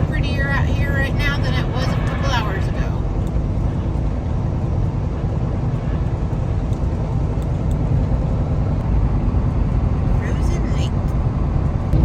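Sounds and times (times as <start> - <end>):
road rumble: 0.0 - 12.0
truck engine drone: 0.0 - 12.0.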